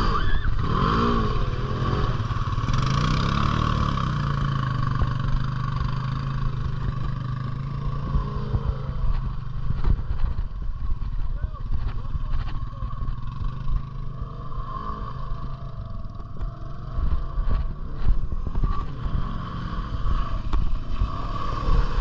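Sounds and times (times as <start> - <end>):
off-road vehicle engine revving: 0.0 - 10.3, 11.9 - 22.0.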